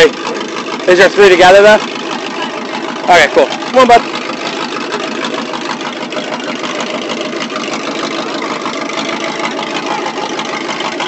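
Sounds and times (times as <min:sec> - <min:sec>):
monster truck engine idling: 0:00.0 - 0:11.0.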